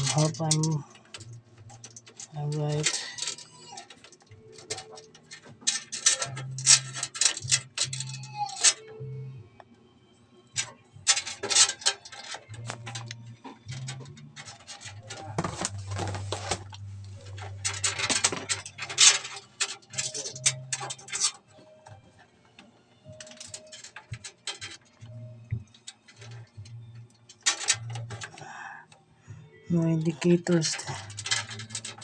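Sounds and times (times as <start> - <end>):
hands handling cables and parts: 0.0 - 8.9, 10.6 - 28.5, 30.4 - 32.0.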